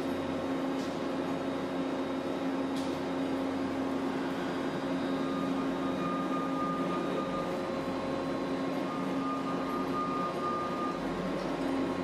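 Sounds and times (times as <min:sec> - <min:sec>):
mechanical equipment hum: 0:00.0 - 0:12.0.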